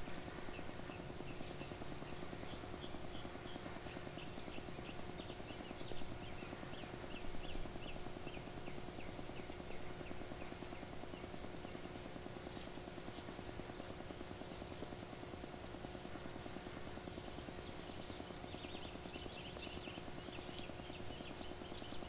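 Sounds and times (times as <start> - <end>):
songbird calling: 0.0 - 12.7, 16.2 - 22.0
low fluttering hum: 0.0 - 22.0.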